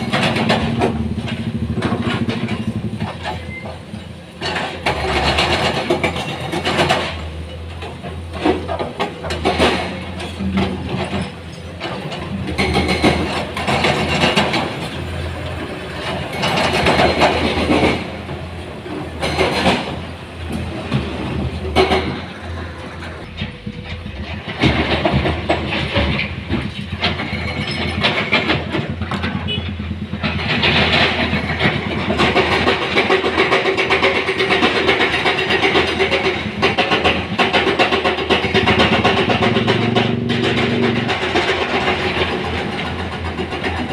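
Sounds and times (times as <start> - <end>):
heavy diesel machinery running: 0.0 - 43.9.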